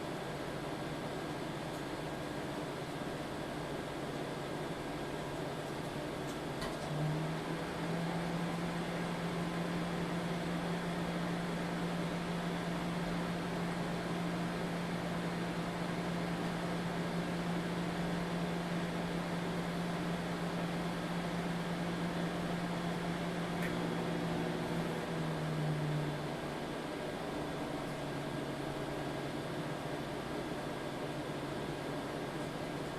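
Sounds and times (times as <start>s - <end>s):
microwave oven humming: 0.0s - 32.9s.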